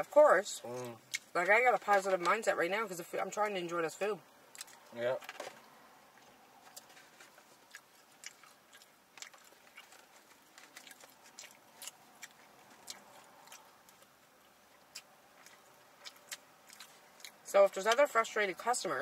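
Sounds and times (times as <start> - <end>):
faint chewing: 0.6 - 2.5, 4.4 - 18.7.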